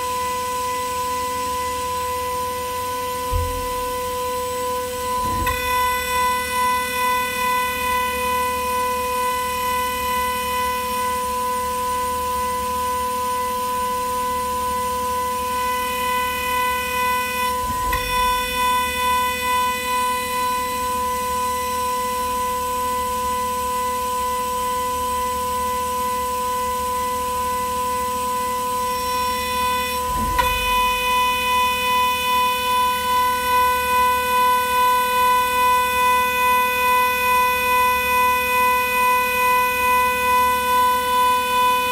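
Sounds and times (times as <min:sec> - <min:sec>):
milling spindle whining: 0:02.8 - 0:41.9.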